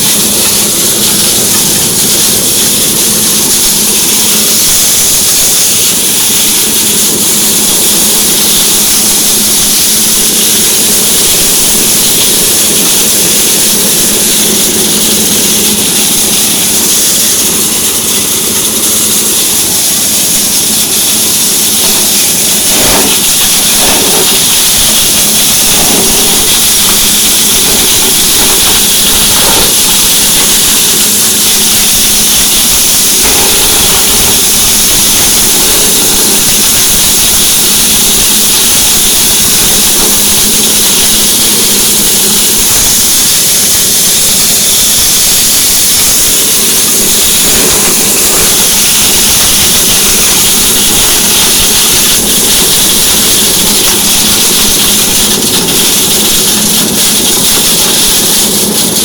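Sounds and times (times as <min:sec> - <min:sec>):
cutter whirring hiss: 0:00.0 - 0:59.0
petrol engine running: 0:00.0 - 0:59.0.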